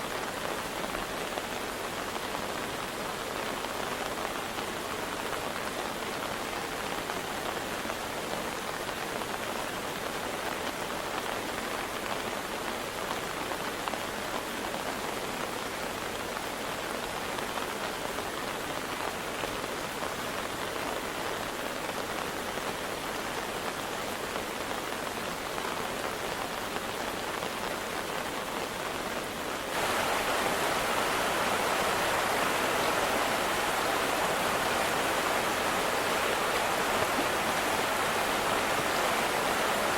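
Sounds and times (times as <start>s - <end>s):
rain falling: 0.0s - 39.9s
rushing water: 0.0s - 39.9s.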